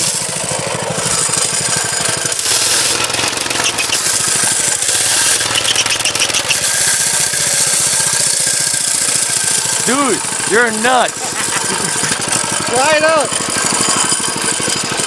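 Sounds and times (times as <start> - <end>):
small engine running loud: 0.0 - 15.0.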